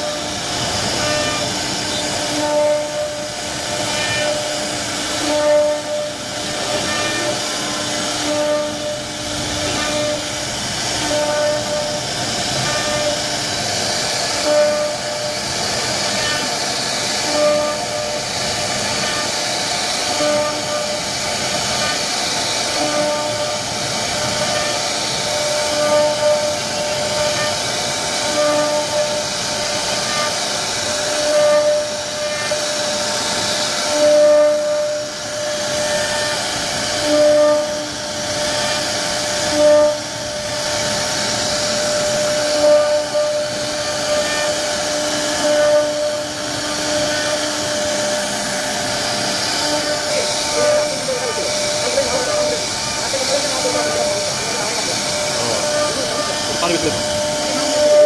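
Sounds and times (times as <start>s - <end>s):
router bit cutting wood: 0.0s - 58.0s.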